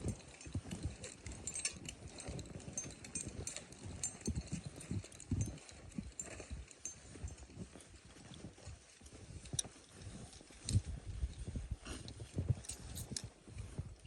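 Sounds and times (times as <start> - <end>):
climbing rope and gear handled: 0.0 - 14.0.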